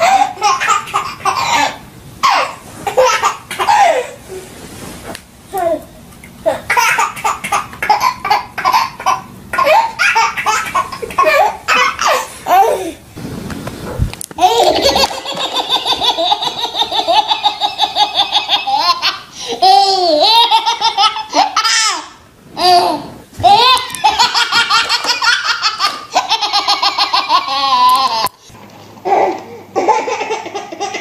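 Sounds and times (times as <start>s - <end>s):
babies laughing: 0.0s - 4.2s, 6.5s - 13.0s, 14.4s - 28.4s, 29.0s - 31.0s.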